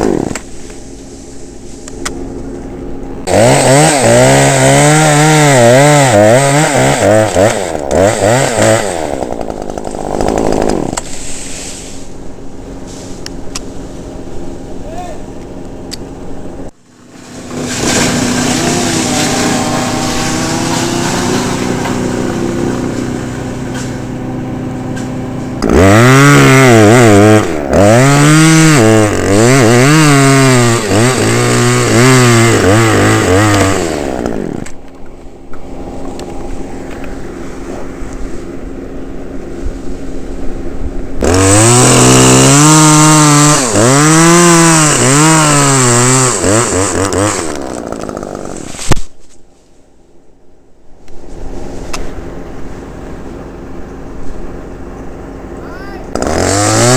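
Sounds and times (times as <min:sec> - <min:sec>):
chainsaw cutting: 0:00.0 - 0:34.9, 0:41.1 - 0:49.2, 0:51.4 - 0:56.9.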